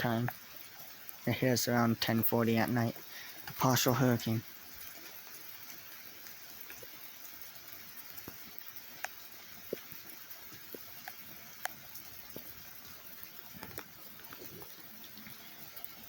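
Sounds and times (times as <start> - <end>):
raindrops pattering on surfaces: 0.0 - 16.0
steady rain hiss: 0.0 - 16.0.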